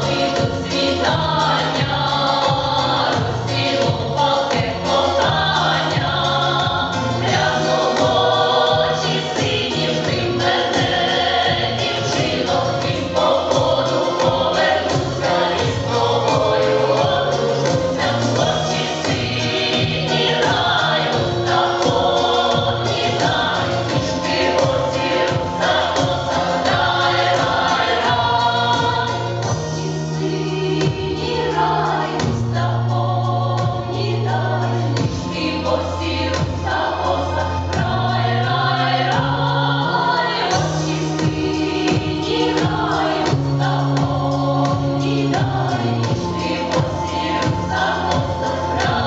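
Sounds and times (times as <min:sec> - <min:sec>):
mixed choir singing folk song: 0:00.0 - 0:49.0.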